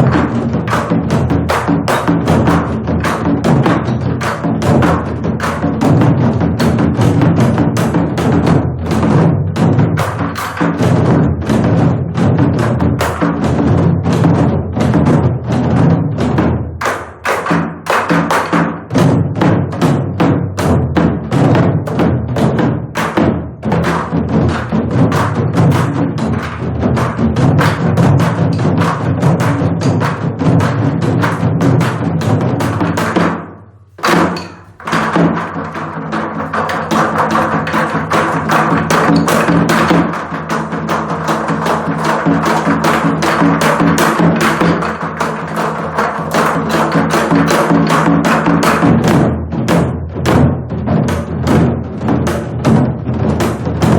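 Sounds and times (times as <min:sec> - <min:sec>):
barrel drums struck fast: 0:00.0 - 0:53.9.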